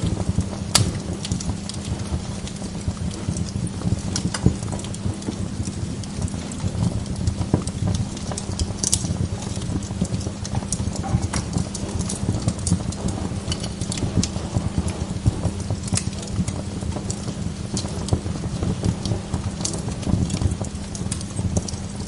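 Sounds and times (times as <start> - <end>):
fire crackling and popping: 0.0 - 22.0
fire flames fluttering: 0.0 - 22.0.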